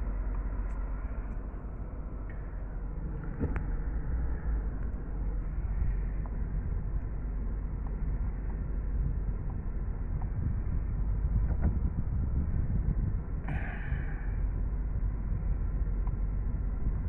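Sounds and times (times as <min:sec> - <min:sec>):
car engine and tyres rumble: 0:00.0 - 0:17.0.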